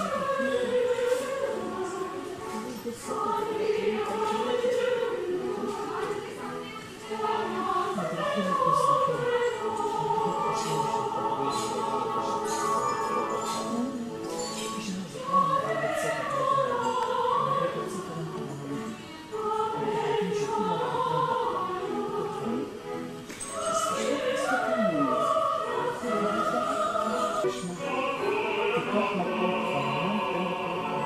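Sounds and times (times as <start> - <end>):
choir singing operatic music: 0.0 - 31.0.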